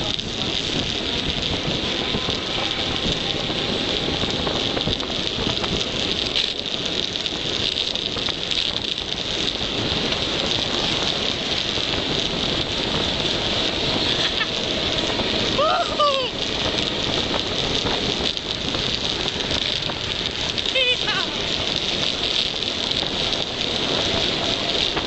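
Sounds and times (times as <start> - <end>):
tyre noise on road: 0.0 - 25.0
wind rushing over microphone: 0.0 - 25.0.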